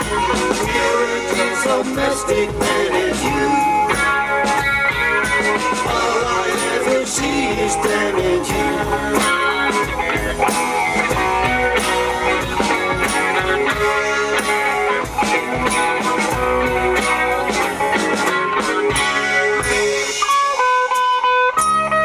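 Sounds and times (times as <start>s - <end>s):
drum beat: 0.0s - 21.2s
bass guitar: 0.0s - 22.0s
electric guitars: 0.0s - 22.0s.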